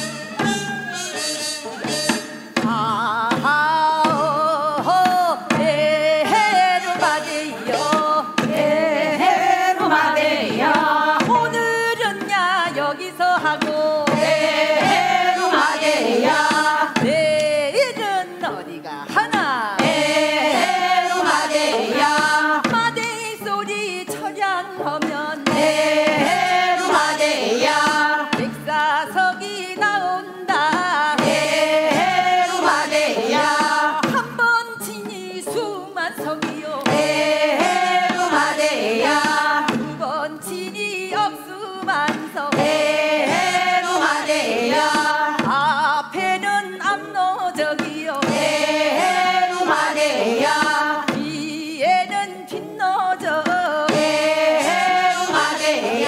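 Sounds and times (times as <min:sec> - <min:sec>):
sharp percussive strikes: 0:00.0 - 0:12.8, 0:13.4 - 0:18.1, 0:19.1 - 0:23.6, 0:25.4 - 0:29.2, 0:30.7 - 0:35.0, 0:36.4 - 0:40.6, 0:42.1 - 0:46.6, 0:47.8 - 0:51.4, 0:53.5 - 0:56.0
male and female voices singing: 0:00.0 - 0:56.0.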